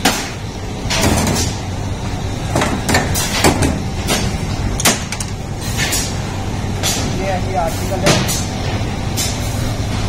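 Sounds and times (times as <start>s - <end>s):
machinery low hum: 0.0s - 10.0s.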